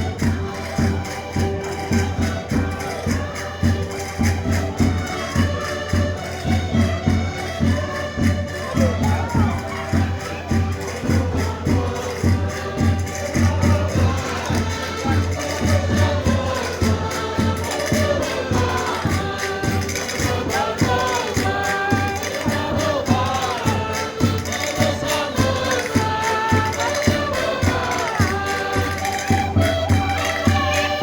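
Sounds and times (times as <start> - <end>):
folk music on concertinas: 0.0 - 31.0
voices singing together: 0.0 - 31.0.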